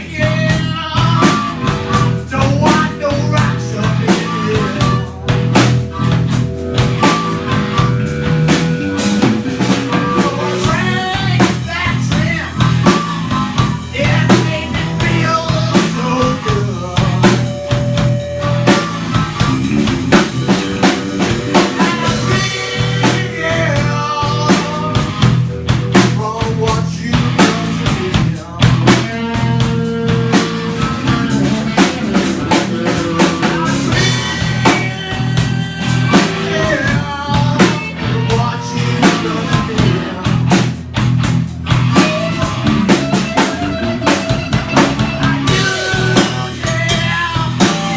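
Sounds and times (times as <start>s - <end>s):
drum kit beat with rimshots: 0.0s - 47.9s
electric guitar lines: 0.0s - 47.9s
low bass: 0.0s - 47.9s.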